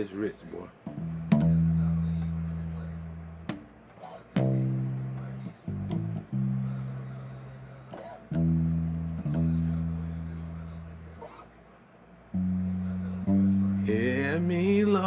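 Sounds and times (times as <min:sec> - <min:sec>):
plucked electric bass notes: 0:00.8 - 0:03.8, 0:04.4 - 0:11.2, 0:12.3 - 0:15.0.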